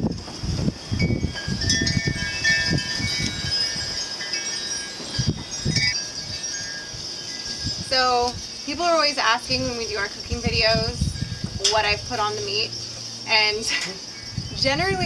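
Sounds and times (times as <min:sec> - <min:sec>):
wind rumble on microphone: 0:00.0 - 0:15.0
wind chimes ringing: 0:00.8 - 0:15.0.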